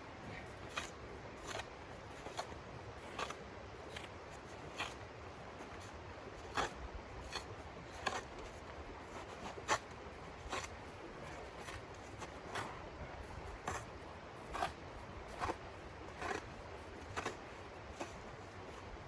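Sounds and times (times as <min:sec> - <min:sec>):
scraping strokes: 0:00.2 - 0:18.9.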